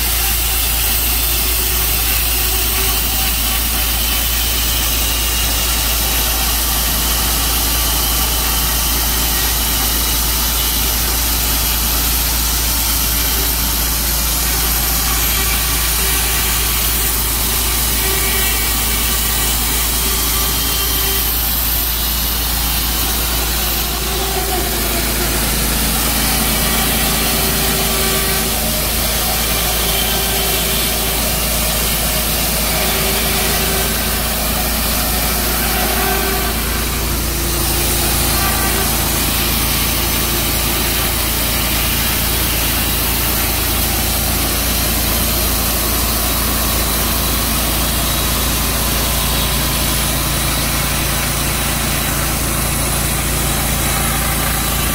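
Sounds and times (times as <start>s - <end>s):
sawmill sawing through a log: 0.0s - 54.9s.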